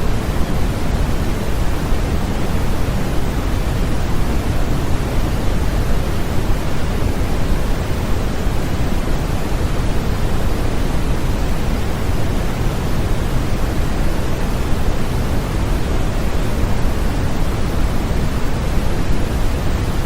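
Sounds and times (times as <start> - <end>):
low even noise hiss: 0.0 - 20.0.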